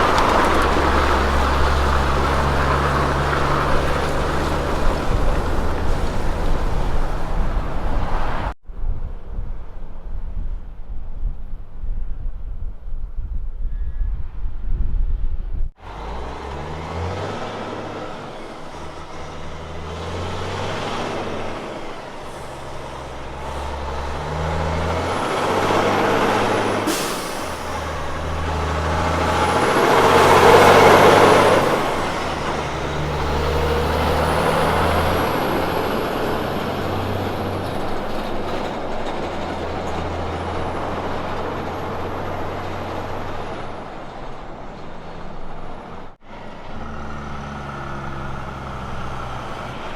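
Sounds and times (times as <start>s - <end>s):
truck diesel engine changing gears: 0.0s - 8.6s, 15.7s - 49.9s.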